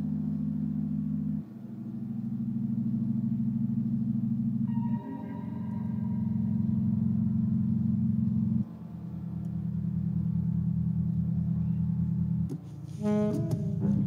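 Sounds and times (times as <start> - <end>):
small ensemble sustained drone: 0.0 - 14.0.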